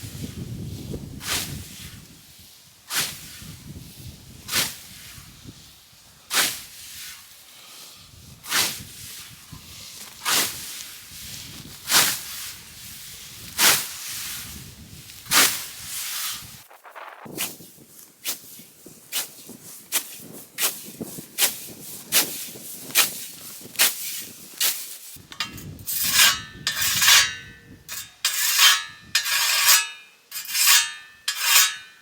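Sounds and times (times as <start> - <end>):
scythe swishing through grass: 1.2 - 3.4, 4.5 - 5.2, 6.3 - 7.2, 8.4 - 27.5, 28.2 - 32.0.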